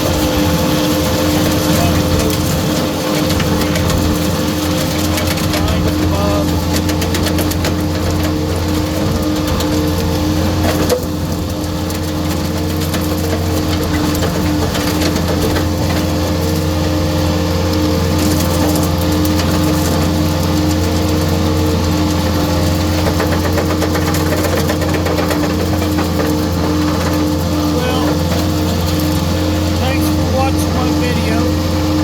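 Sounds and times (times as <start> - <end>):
grinder cutting trees: 0.0 - 32.0
skid steer engine hum: 0.0 - 32.0.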